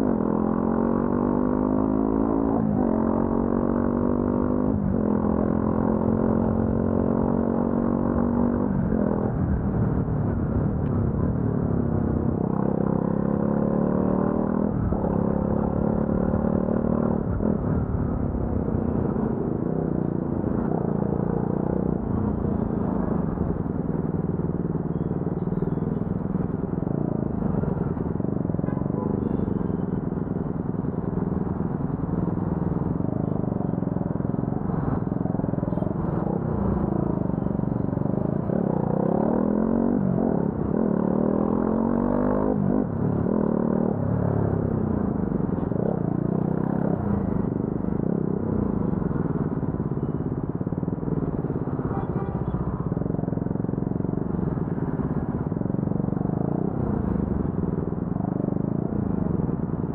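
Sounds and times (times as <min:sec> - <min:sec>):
traffic rumbling: 0:00.0 - 0:59.9.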